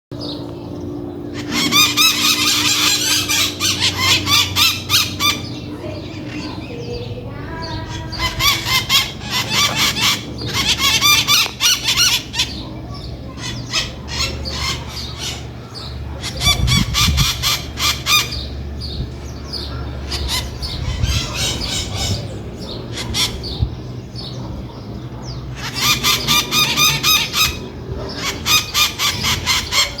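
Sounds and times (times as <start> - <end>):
parrots chattering: 1.0 - 30.0
parrots screeching: 1.3 - 6.9, 7.6 - 18.5, 19.5 - 23.6, 25.5 - 30.0.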